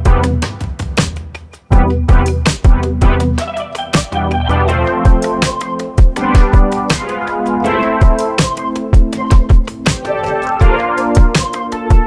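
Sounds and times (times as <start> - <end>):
steady drum beat: 0.0 - 12.0
organ-like keyboard chords: 1.4 - 12.0.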